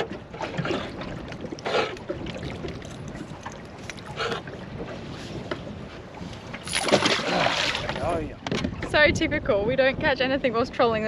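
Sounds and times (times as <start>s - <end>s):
water against boat hull: 0.0s - 11.0s
wind on microphone: 0.0s - 11.0s.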